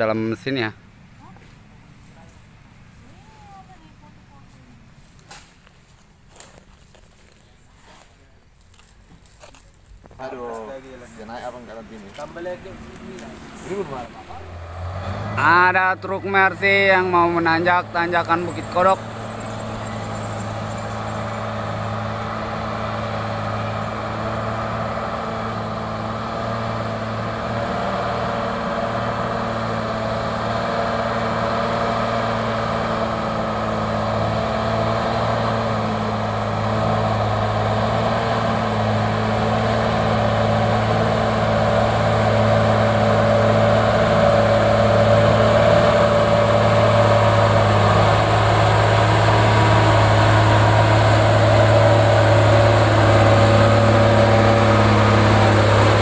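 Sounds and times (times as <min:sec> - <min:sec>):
diesel truck engine drone: 0:00.0 - 0:56.0.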